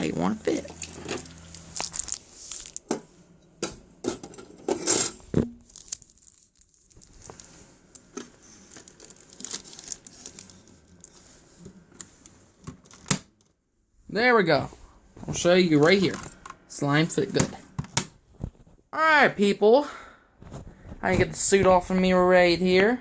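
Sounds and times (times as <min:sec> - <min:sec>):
crinkling and rustling: 0:00.0 - 0:13.6, 0:14.5 - 0:18.9, 0:20.4 - 0:22.7.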